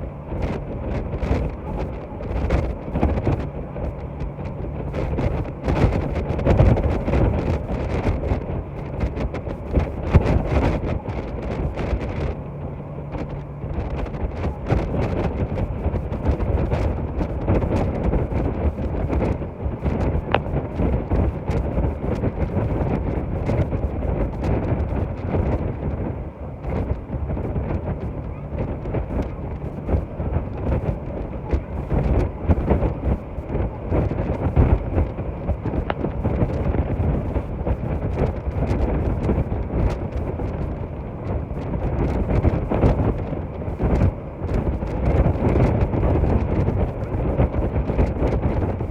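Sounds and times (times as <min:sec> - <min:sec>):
boat rumbling under way: 0:00.0 - 0:48.9
faint steady hum: 0:00.0 - 0:48.9
wind buffeting microphone: 0:00.0 - 0:48.9.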